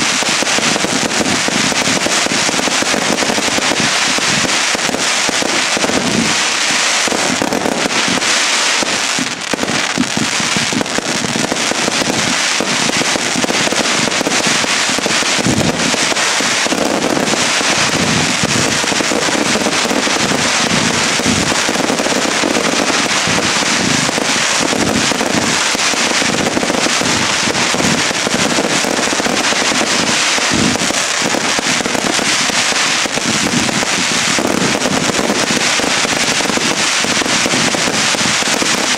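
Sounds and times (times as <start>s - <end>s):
fireworks bangs and cracks: 0.0s - 38.9s.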